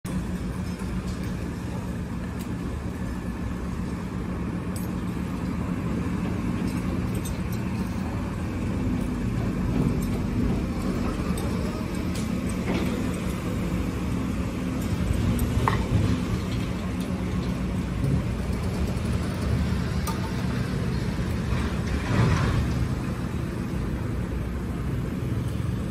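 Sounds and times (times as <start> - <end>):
diesel engine running: 0.1 - 25.9.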